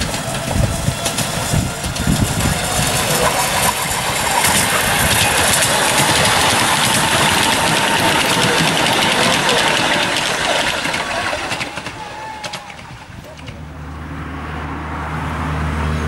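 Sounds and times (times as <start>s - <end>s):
miniature locomotive engine running: 0.0s - 13.6s.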